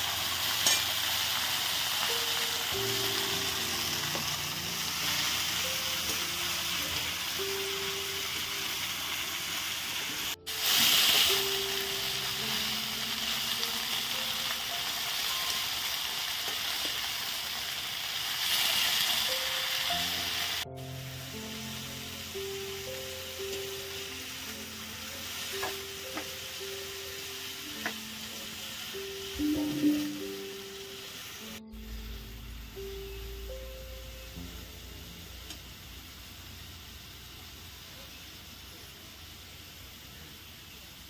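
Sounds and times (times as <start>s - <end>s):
food sizzling in hot oil: 0.0s - 41.0s
background music: 0.2s - 17.6s, 18.4s - 36.5s.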